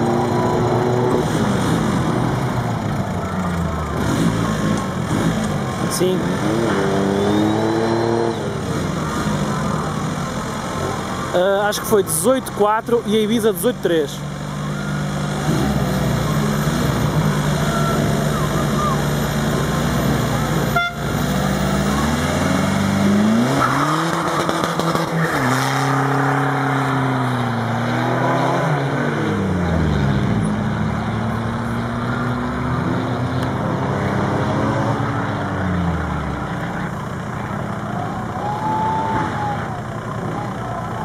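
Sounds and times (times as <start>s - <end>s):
car engines racing: 0.0s - 41.0s.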